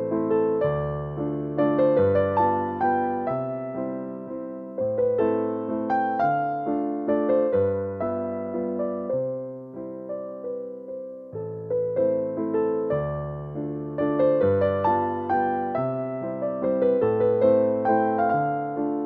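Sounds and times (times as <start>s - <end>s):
gentle keyboard piece: 0.0s - 19.0s.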